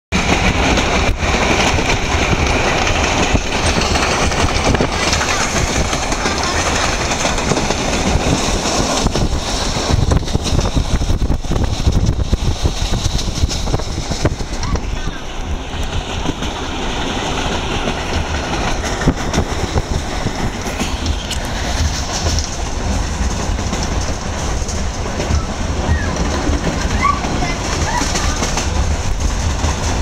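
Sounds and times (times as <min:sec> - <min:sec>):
train clatter: 0:00.1 - 0:30.0
train wheels rumbling on track: 0:00.1 - 0:30.0.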